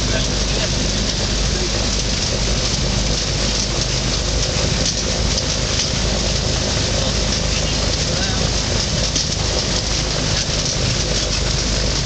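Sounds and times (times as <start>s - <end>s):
microlight engine and propeller: 0.0s - 12.0s.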